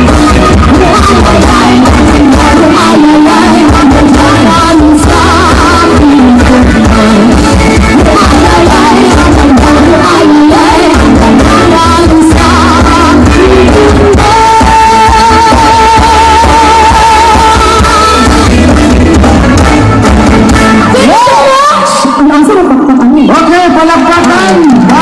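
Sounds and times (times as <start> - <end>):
live band with singer: 0.0 - 25.0.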